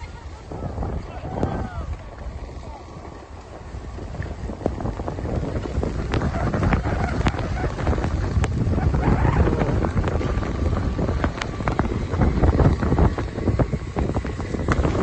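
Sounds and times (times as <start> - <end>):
skis scraping through snow: 0.0 - 15.0
wind buffeting microphone: 0.0 - 15.0.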